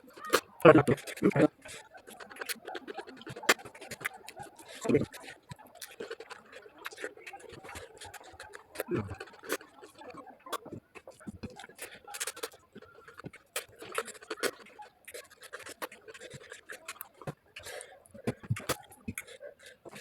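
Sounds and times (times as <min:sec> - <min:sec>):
eating clicks smacks and scrapes: 0:00.1 - 0:20.0.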